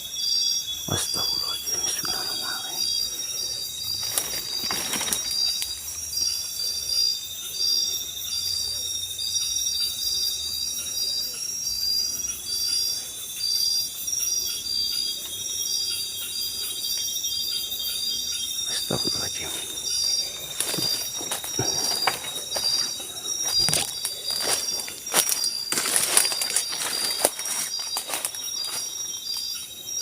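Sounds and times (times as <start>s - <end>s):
insects whining: 0.0s - 30.0s
pulsed insect trill: 0.0s - 30.0s.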